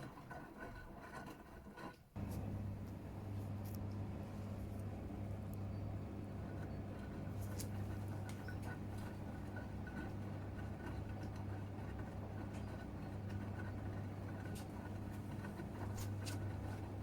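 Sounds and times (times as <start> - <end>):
washing machine motor hum: 2.2 - 17.0.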